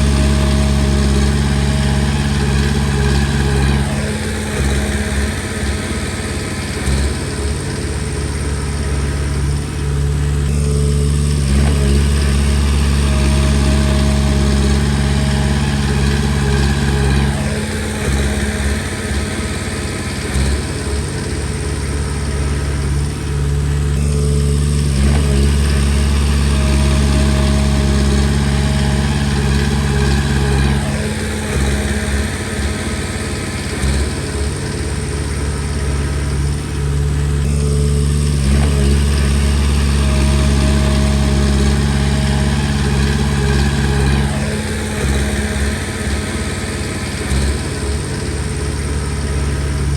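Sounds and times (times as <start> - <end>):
bulldozer diesel engine under load: 0.0 - 49.9.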